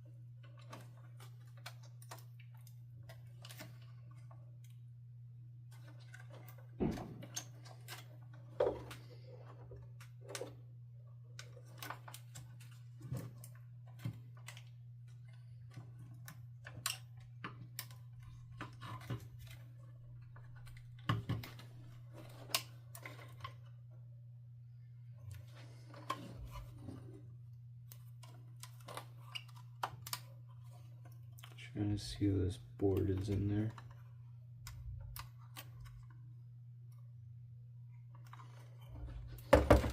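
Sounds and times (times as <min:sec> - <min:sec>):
plastic parts clicking and knocking: 0:00.4 - 0:04.8, 0:05.7 - 0:10.7, 0:11.3 - 0:23.8, 0:27.8 - 0:36.3, 0:38.1 - 0:39.9.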